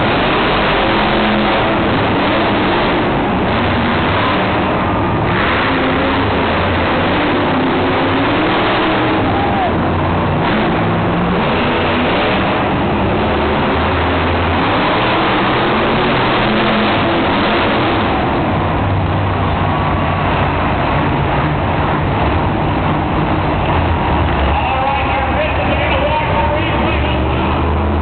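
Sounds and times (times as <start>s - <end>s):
monster truck engines revving: 0.0s - 28.0s.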